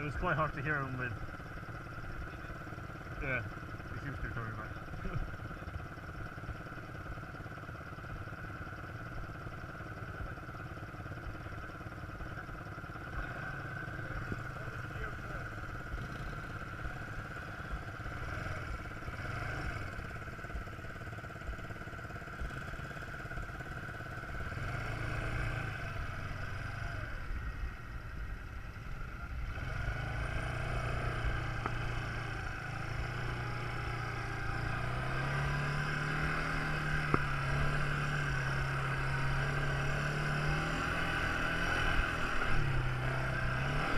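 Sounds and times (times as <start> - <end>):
quad bike engine running: 0.0 - 43.9.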